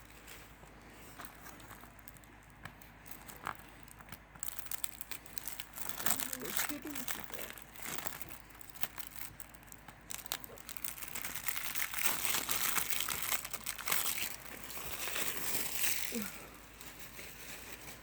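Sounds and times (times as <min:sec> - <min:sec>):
plastic shrink wrap crinkling: 0:00.0 - 0:18.0.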